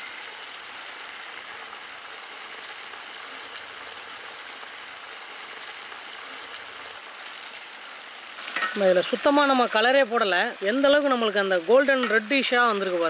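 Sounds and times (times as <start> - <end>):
oil sizzling while deep-frying: 0.0 - 13.0.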